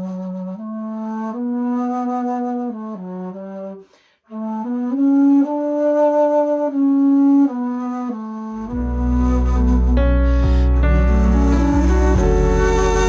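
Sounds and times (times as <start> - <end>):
bass flute melody: 0.0 - 3.8, 4.4 - 13.0.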